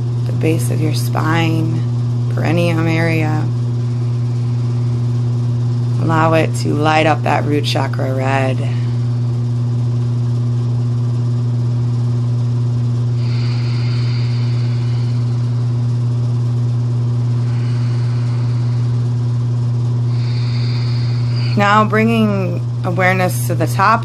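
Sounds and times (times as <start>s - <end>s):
low droning tone: 0.0s - 10.4s, 11.7s - 24.0s.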